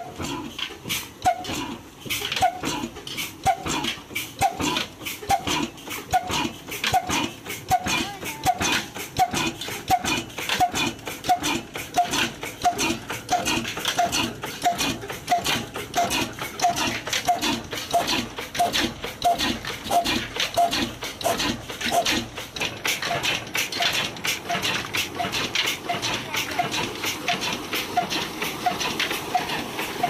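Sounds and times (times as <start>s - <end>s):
diesel engine running slowly: 0.0s - 30.0s.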